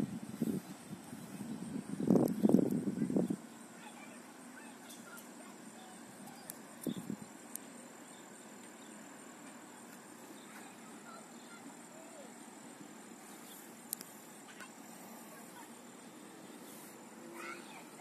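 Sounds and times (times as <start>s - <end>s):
high-pitched insect trill: 0.2s - 18.0s.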